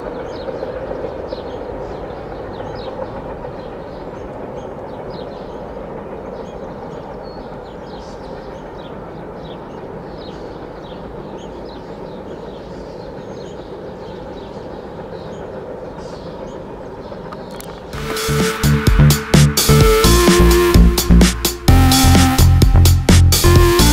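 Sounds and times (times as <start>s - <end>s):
train wheels rolling on track: 0.0s - 23.9s.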